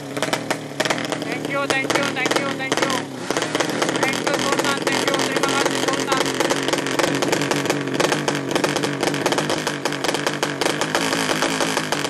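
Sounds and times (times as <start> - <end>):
motorcycle engine running loudly: 0.0 - 12.0.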